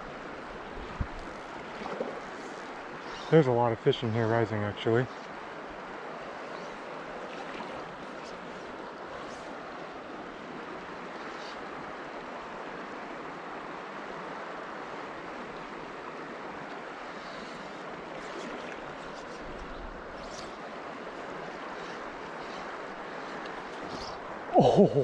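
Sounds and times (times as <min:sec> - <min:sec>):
river flowing: 0:00.0 - 0:25.0.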